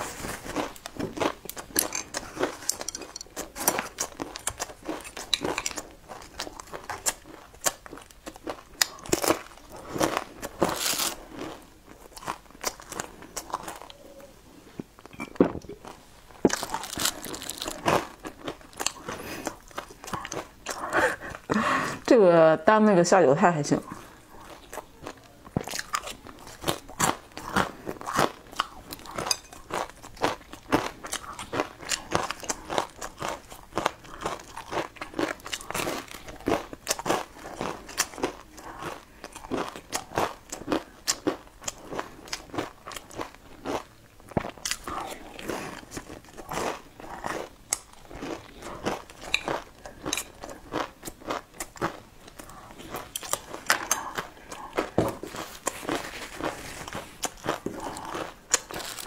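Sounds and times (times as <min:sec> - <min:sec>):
person chewing crispy food: 0:00.0 - 0:22.0, 0:23.8 - 0:59.0.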